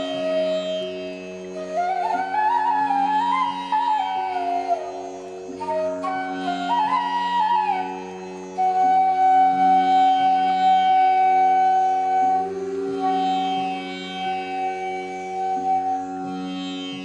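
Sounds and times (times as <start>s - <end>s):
indian classical melody over drone: 0.0s - 17.0s.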